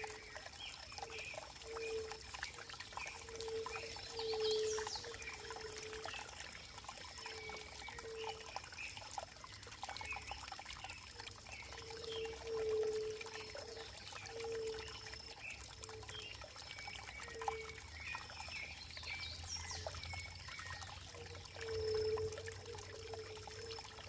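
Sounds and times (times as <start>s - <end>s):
water drips: 0.0s - 24.0s
water trickling and gurgling: 0.0s - 24.0s.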